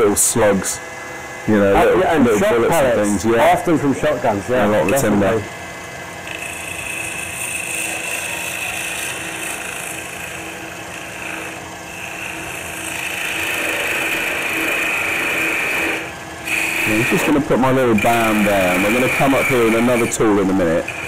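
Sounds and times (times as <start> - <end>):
lathe humming: 0.0 - 21.0.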